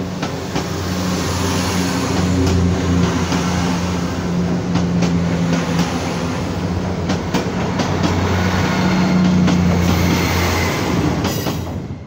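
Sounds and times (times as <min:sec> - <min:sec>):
train engine drone: 0:00.0 - 0:12.0.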